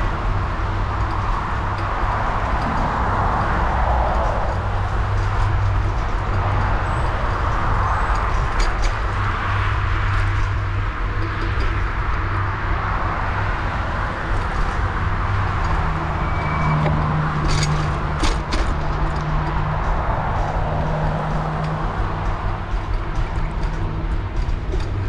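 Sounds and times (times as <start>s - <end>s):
wind and road noise from bicycle: 0.0s - 25.0s.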